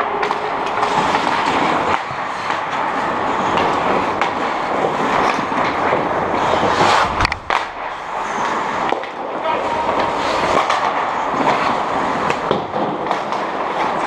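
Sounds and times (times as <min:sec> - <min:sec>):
hockey sticks and puck clicking: 0:00.0 - 0:14.0
skate blades scraping ice: 0:00.0 - 0:14.0.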